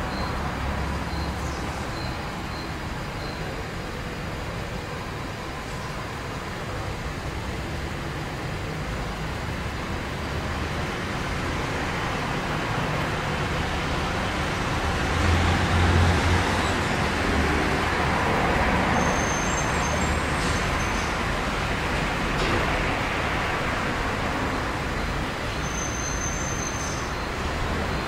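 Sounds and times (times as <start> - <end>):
steady low traffic hum: 0.0 - 28.0.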